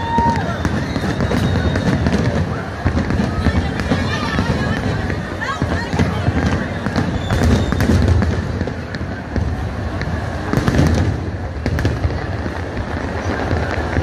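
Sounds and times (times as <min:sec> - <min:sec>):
firework crackles: 0:00.0 - 0:14.0
fireworks bursting: 0:00.0 - 0:14.0.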